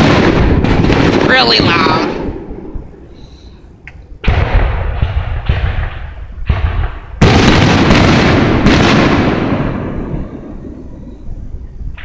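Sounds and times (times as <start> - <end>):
firework booms with rumbling echo: 0.0 - 12.0.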